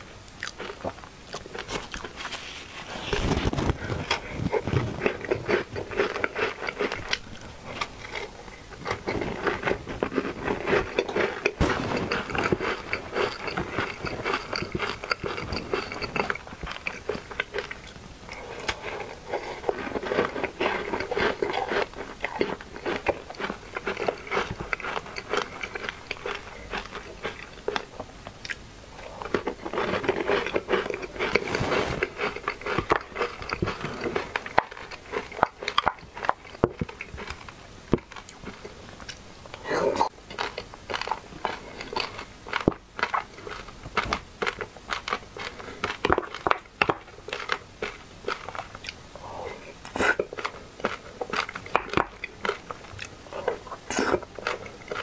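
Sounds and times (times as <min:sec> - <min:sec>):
crunchy chewing of crisp bread: 0:00.3 - 0:55.0.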